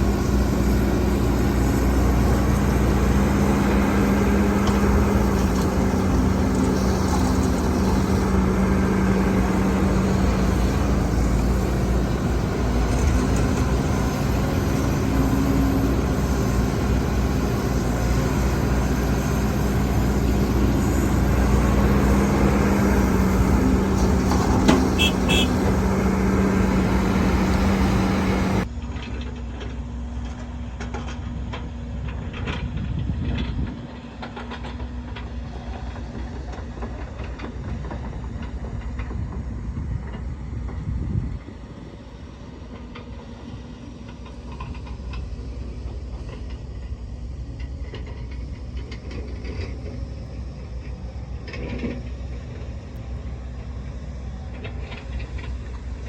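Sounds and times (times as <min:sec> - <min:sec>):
heavy machinery diesel engines running: 0:00.0 - 0:56.0.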